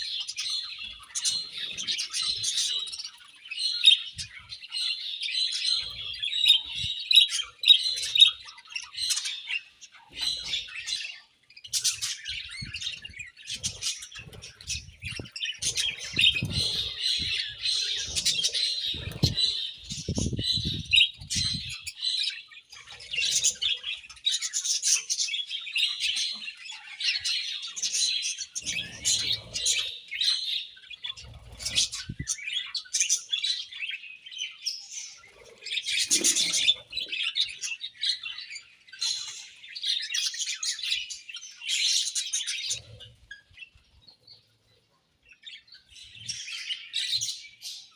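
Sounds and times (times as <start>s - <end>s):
budgerigars chirping: 0.0s - 41.1s.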